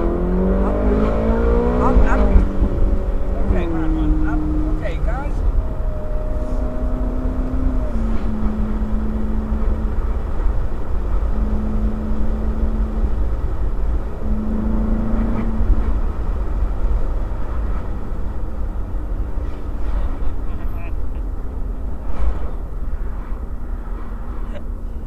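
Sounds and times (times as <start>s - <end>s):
car engine drone: 0.0s - 25.0s
road noise: 0.0s - 25.0s.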